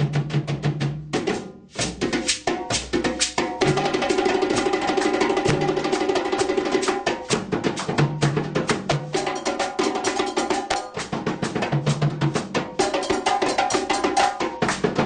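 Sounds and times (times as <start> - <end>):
percussion-heavy group music: 0.0 - 15.0.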